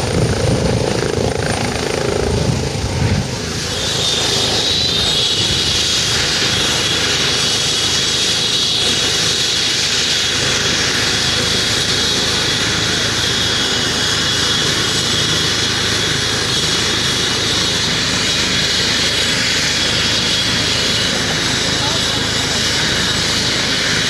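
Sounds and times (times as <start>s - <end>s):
helicopter turbine and rotor whine: 0.0s - 24.0s.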